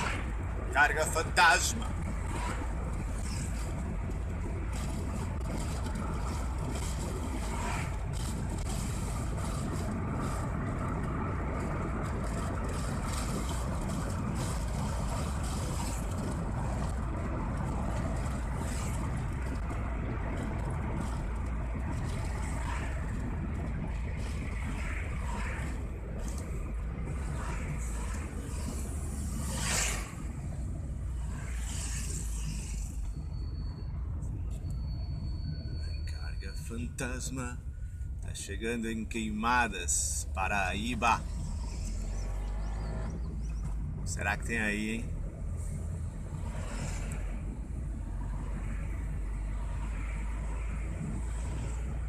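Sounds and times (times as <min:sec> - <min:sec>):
engine and tyre rumble: 0:00.0 - 0:52.0.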